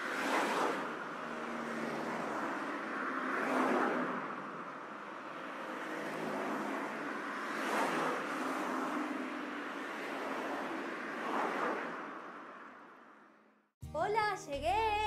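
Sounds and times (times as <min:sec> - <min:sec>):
cars passing by: 0:00.0 - 0:13.6.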